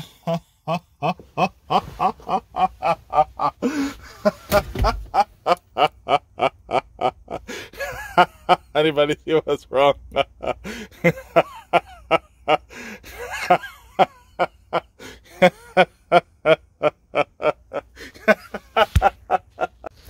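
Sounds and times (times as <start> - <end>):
man laughing: 0.0 - 9.1, 9.8 - 20.0.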